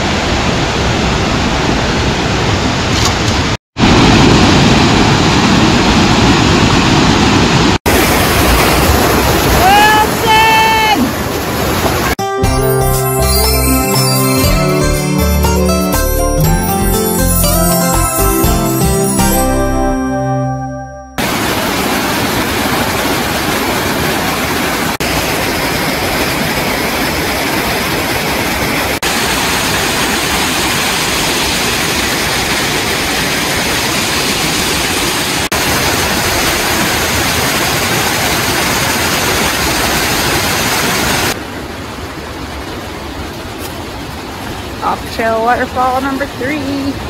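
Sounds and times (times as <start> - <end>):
waterfall roaring: 0.0 - 12.2, 21.2 - 47.0.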